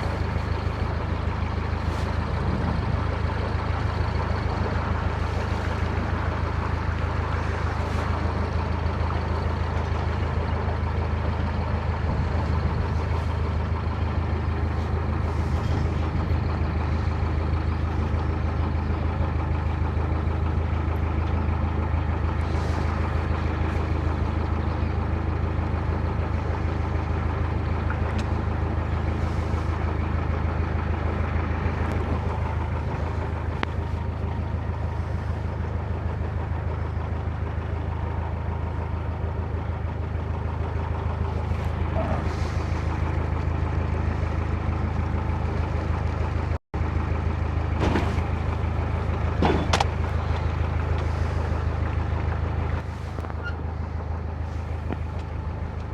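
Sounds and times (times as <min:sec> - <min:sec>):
diesel engine humming: 0:00.0 - 0:55.9.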